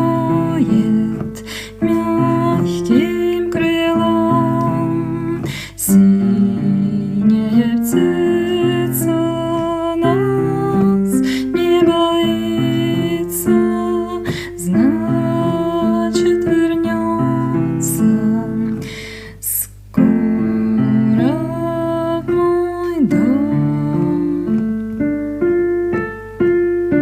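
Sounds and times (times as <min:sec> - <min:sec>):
slow piano-like keyboard music: 0:00.0 - 0:27.0.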